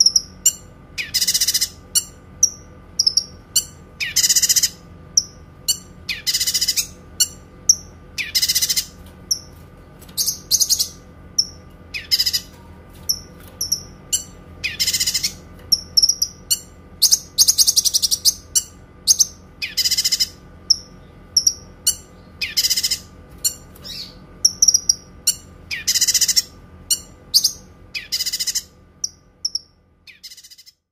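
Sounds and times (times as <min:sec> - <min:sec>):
songbird trilling: 0:00.0 - 0:09.6, 0:10.2 - 0:30.8
faint steady hum: 0:00.0 - 0:30.9.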